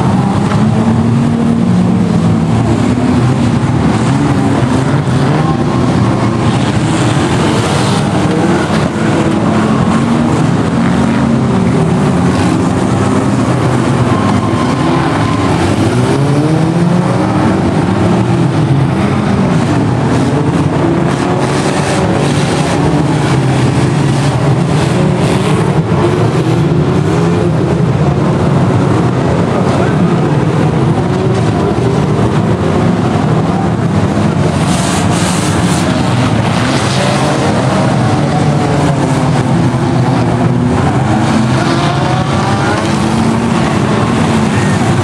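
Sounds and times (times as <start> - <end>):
many car engines revving: 0.0 - 45.0.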